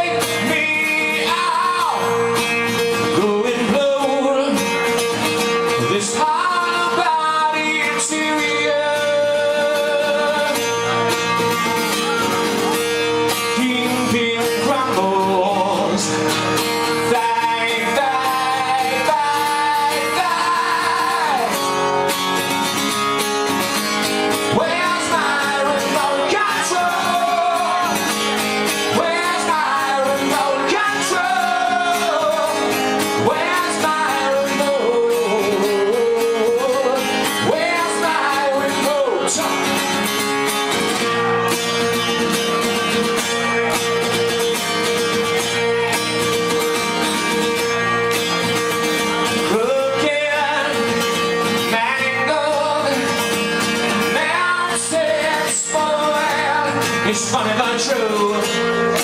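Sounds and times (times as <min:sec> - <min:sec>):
acoustic guitar song: 0:00.0 - 0:59.0.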